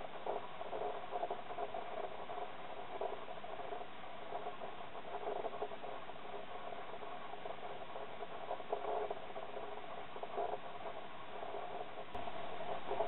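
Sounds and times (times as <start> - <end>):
muffled hiss: 0.0 - 13.0.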